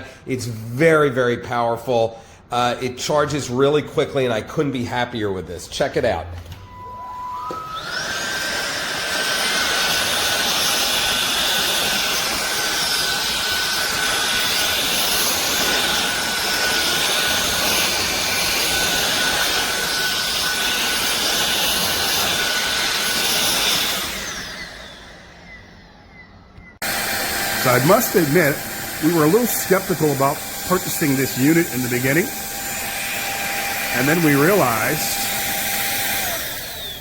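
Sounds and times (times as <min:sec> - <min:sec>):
vacuum cleaner whining: 0:06.3 - 0:37.0
vacuum motor winding down: 0:06.3 - 0:37.0.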